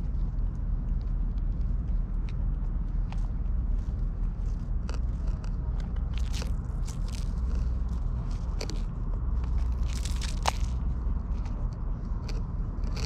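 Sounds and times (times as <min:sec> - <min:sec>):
low rumble: 0:00.0 - 0:13.0
cat chewing crunchily: 0:00.4 - 0:13.0.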